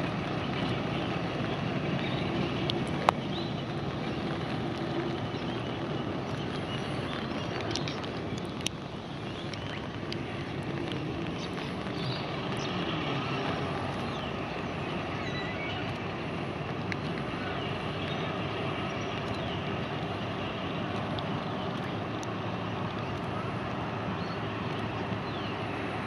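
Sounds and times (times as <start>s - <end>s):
distant locomotive engine drone: 0.0s - 26.0s.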